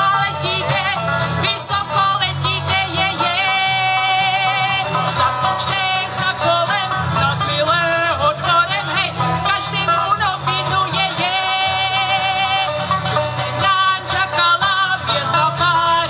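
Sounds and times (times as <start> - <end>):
acoustic guitar: 0.0 - 16.0
woman singing: 0.0 - 16.0.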